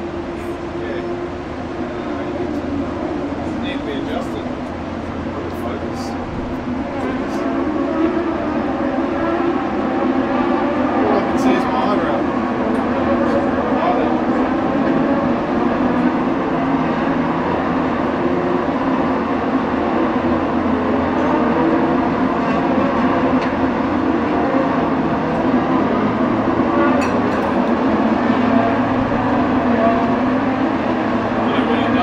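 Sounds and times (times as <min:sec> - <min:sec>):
distant race car engines: 0:00.0 - 0:32.0.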